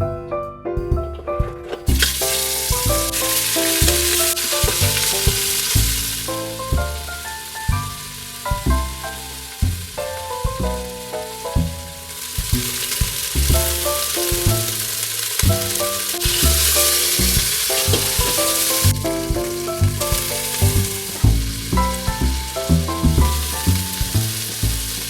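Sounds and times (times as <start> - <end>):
instrumental background music: 0.0 - 25.0
food sizzling in hot fat: 1.9 - 25.0.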